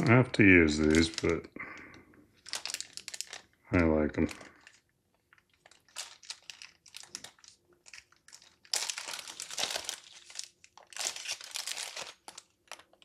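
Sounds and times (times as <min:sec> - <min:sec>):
packaging crinkling: 0:00.8 - 0:13.0.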